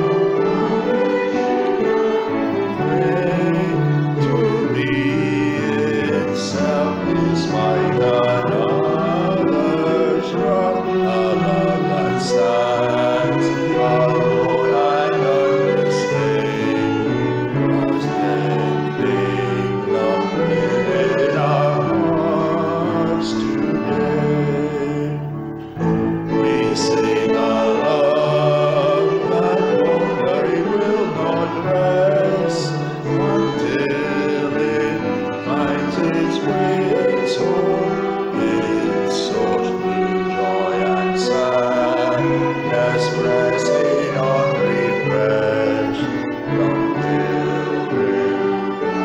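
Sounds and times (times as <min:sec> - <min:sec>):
instrumental accompaniment: 0:00.0 - 0:49.0
voices singing a hymn: 0:00.0 - 0:49.0.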